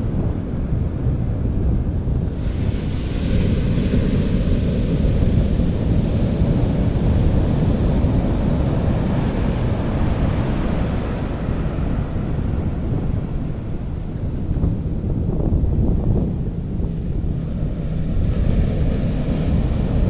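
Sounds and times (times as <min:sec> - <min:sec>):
wind buffeting microphone: 0:00.0 - 0:20.0
waves washing on beach: 0:02.0 - 0:20.0.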